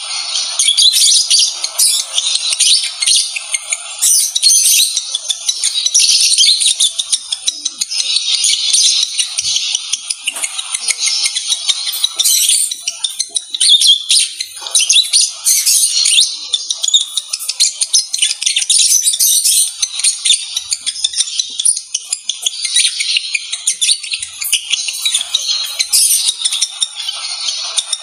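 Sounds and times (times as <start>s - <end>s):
lovebirds chattering: 0.0s - 28.0s.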